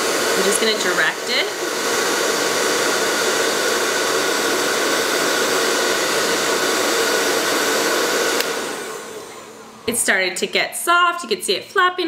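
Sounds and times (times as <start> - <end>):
hair dryer running: 0.0 - 11.6.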